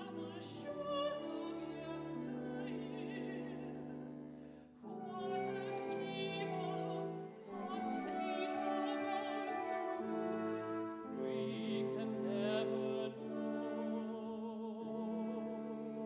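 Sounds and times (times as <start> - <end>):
operatic singing with vibrato: 0.0 - 4.0, 4.8 - 16.0.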